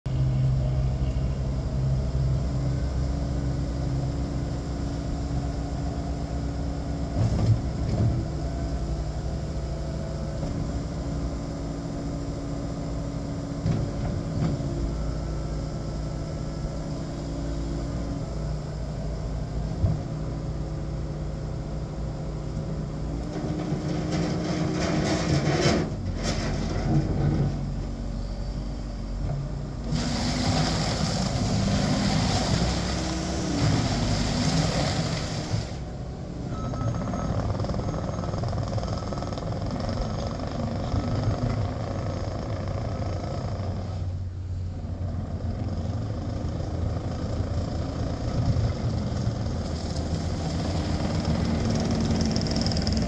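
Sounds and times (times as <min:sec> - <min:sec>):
track loader diesel engine running: 0:00.0 - 0:53.0.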